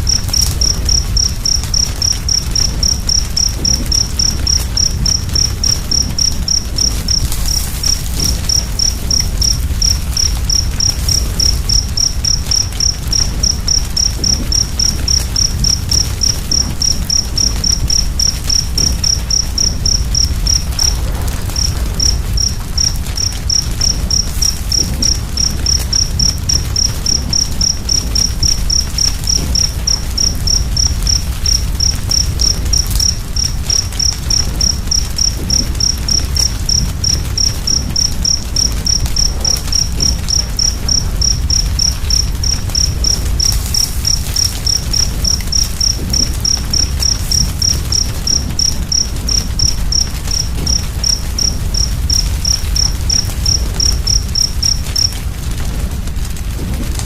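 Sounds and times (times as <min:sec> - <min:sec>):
cricket chirping: 0:00.0 - 0:57.0
wood fire crackling: 0:00.0 - 0:57.0.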